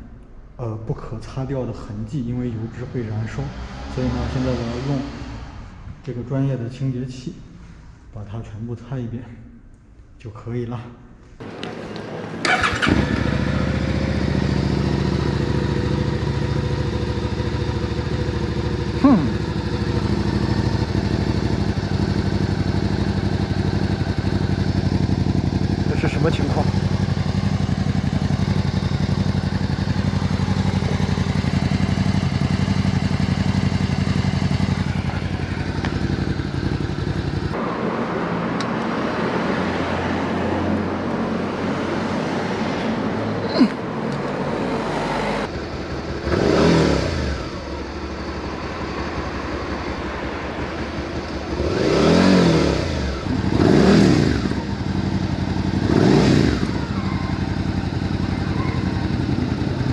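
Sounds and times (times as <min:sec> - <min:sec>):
motorcycle engine idling and revving: 0:01.8 - 0:06.1, 0:11.4 - 0:59.9.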